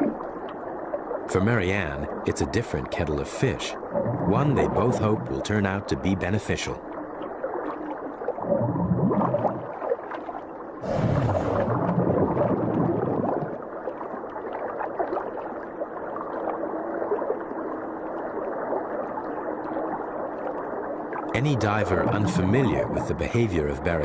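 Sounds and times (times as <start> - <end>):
underwater bubbling and gurgling: 0.0 - 24.0.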